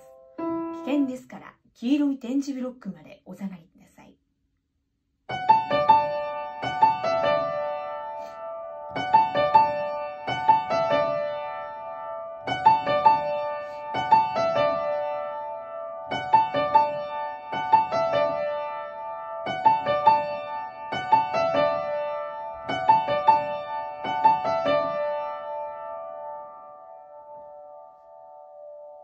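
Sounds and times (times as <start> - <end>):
upright piano playing a motif: 0.0 - 1.4, 5.3 - 29.0.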